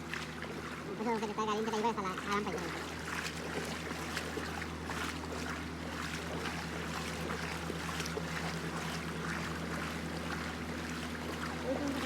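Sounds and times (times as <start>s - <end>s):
boat engine humming: 0.0s - 12.0s
water wash: 0.0s - 12.0s.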